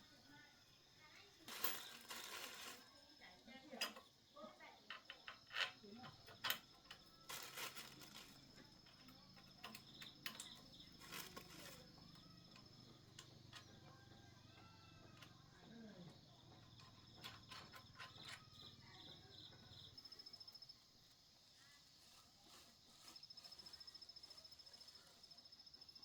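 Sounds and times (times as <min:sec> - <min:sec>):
faint high insect chirping: 0:00.0 - 0:26.0.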